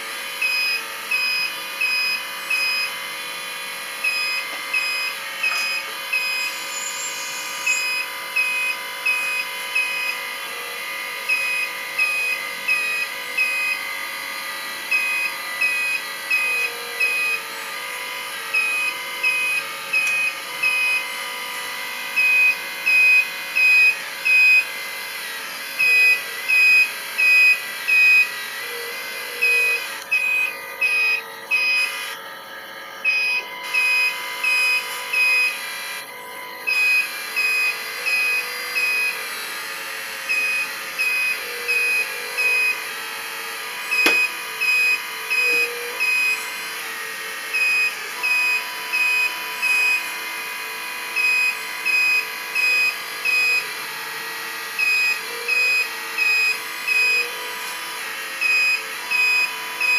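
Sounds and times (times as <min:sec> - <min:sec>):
mechanical hum: 0:00.0 - 0:59.9
reversing alarm beeps: 0:00.4 - 0:03.1, 0:03.8 - 0:10.3, 0:11.2 - 0:13.8, 0:14.9 - 0:24.7, 0:25.8 - 0:32.2, 0:33.0 - 0:36.0, 0:36.6 - 0:39.3, 0:40.3 - 0:42.9, 0:43.8 - 0:46.6, 0:47.5 - 0:50.2, 0:51.2 - 0:53.8, 0:54.8 - 0:57.4, 0:58.4 - 0:59.9.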